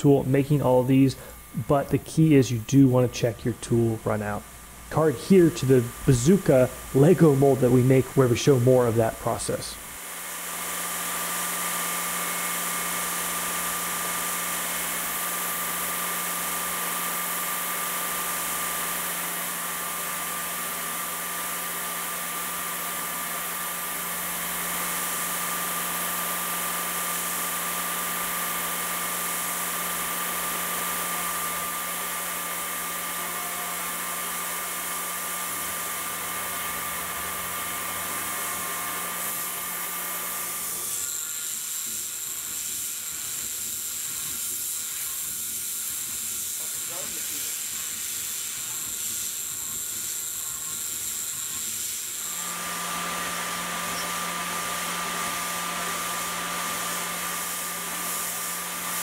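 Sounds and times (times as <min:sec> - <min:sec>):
milling spindle whine: 0:00.0 - 0:59.0.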